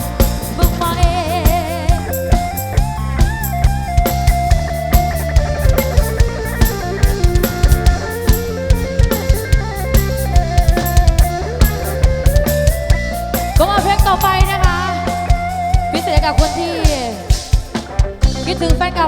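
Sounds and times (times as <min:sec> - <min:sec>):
drum kit beat: 0:00.0 - 0:19.0
live band playing: 0:00.0 - 0:19.0
wavering lead melody: 0:00.0 - 0:19.0.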